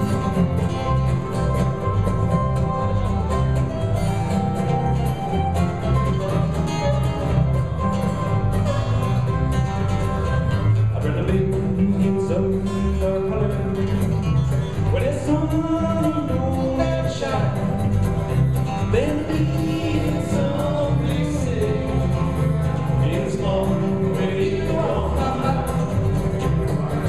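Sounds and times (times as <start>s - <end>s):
electric bass: 0.0s - 27.0s
sliding lead melody: 0.0s - 27.0s
strummed acoustic guitars: 0.0s - 27.0s.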